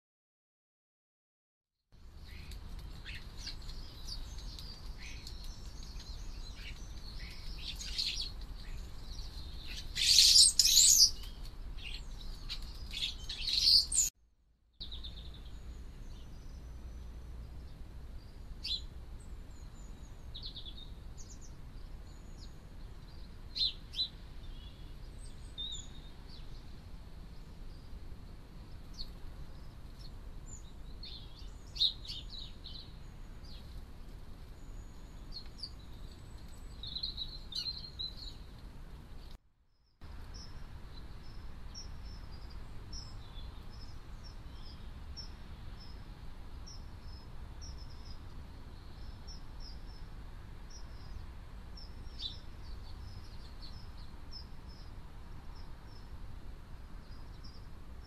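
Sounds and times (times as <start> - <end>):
small birds chirping and trilling: 2.0 - 14.1, 14.8 - 58.0.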